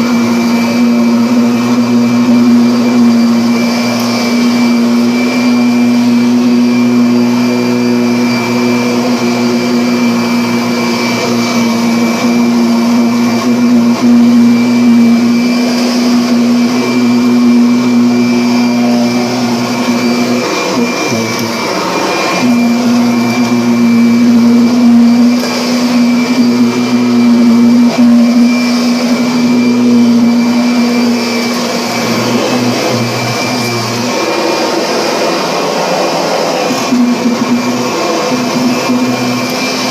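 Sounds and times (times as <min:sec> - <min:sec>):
vacuum cleaner motor humming: 0:00.0 - 0:39.9.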